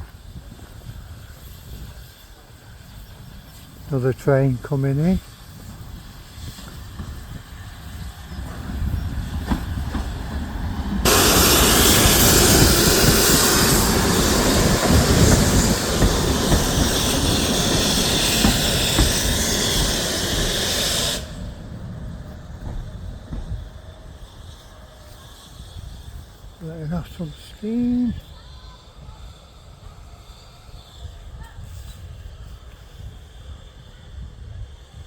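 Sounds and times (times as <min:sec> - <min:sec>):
loud steam hiss: 0:00.0 - 0:35.0
steam locomotive rumble: 0:00.0 - 0:35.0.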